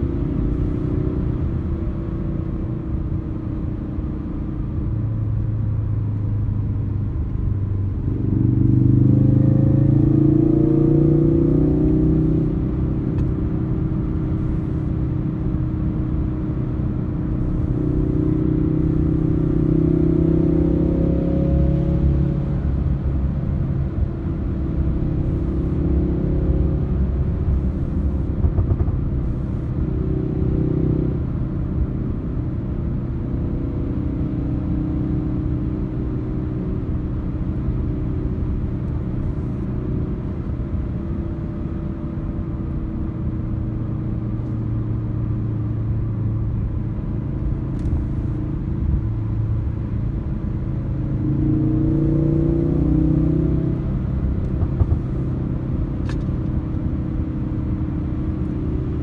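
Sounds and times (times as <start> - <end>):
car engine while driving: 0.0 - 59.0.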